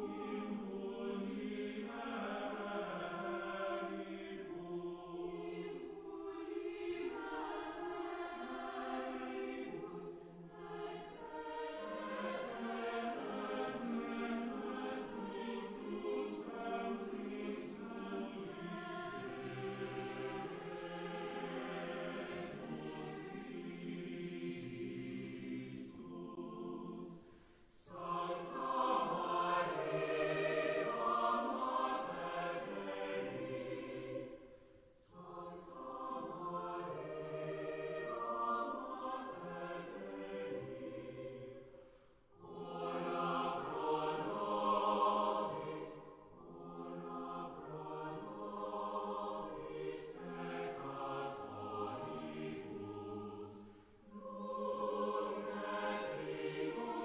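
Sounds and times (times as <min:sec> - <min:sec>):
choir singing slow phrases: 0:00.0 - 0:57.0.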